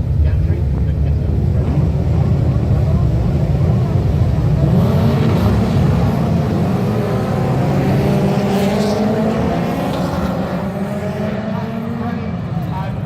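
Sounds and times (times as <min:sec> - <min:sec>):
racing car engines accelerating: 0:00.0 - 0:13.0.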